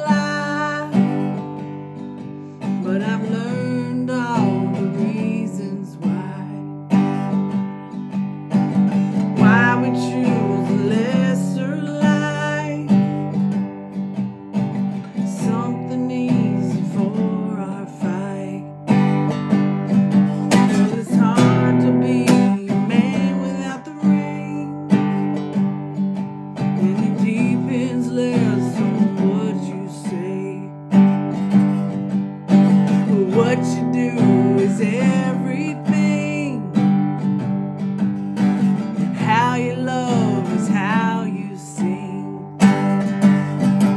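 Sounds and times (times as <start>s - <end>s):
person singing: 0.0s - 13.6s, 15.0s - 25.8s, 26.6s - 32.0s, 32.6s - 37.2s, 38.7s - 43.9s
acoustic guitar strumming: 0.0s - 43.9s.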